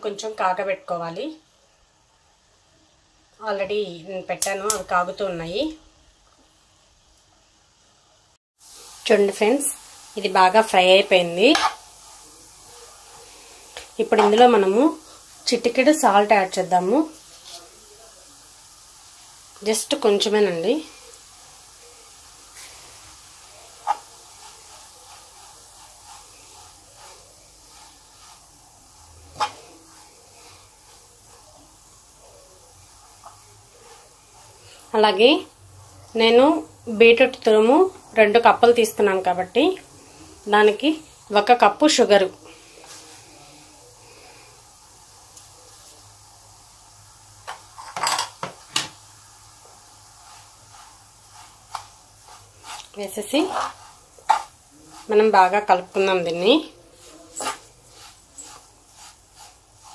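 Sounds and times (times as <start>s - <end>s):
beetroot sizzling in a pan: 0.0s - 59.9s.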